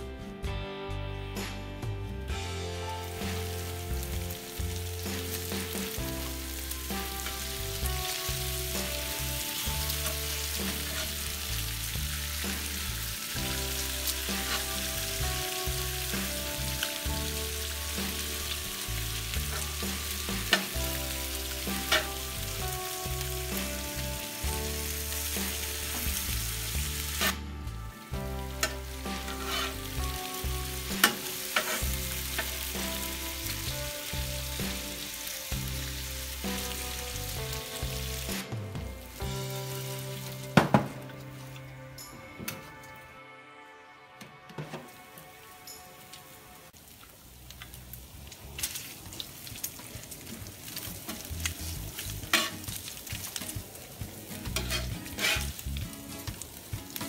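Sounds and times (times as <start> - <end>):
background music with bass: 0.0 - 45.8, 51.0 - 57.0
meat sizzling on griddle: 2.3 - 41.5, 46.7 - 57.0.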